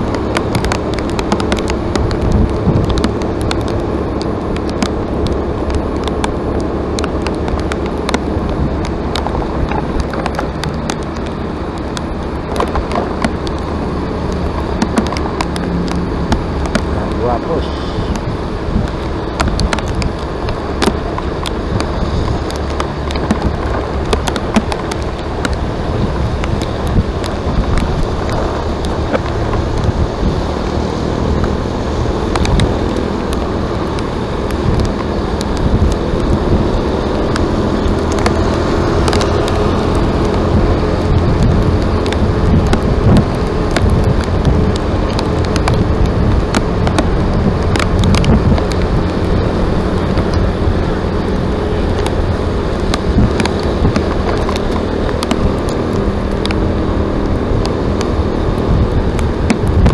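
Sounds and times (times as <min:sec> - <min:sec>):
heavy rumbling noise: 0:00.0 - 0:59.9.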